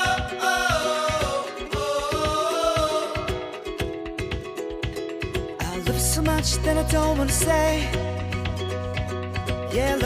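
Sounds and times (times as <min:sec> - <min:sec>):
pop love song: 0:00.0 - 0:10.0
steady beat: 0:00.0 - 0:10.0.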